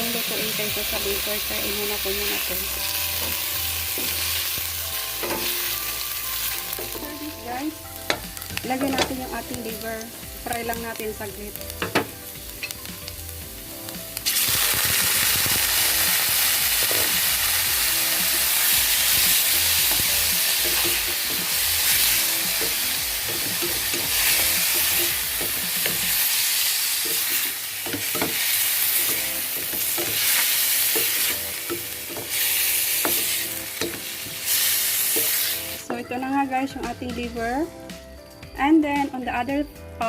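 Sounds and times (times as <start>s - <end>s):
liver sizzling in hot oil: 0.0s - 36.7s.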